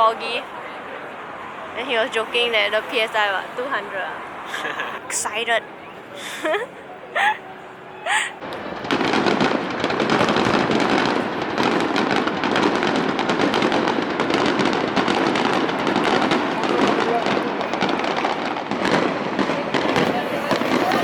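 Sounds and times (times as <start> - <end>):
fireworks crackling: 0.0 - 6.6, 8.1 - 21.0.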